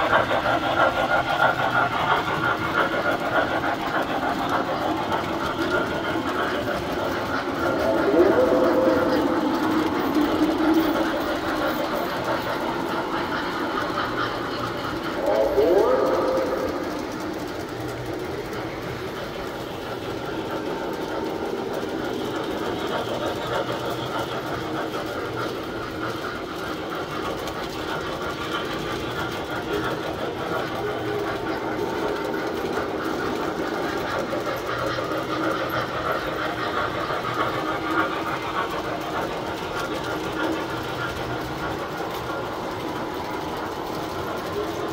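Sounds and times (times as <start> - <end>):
wheels clattering over rail joints: 0.0 - 44.9.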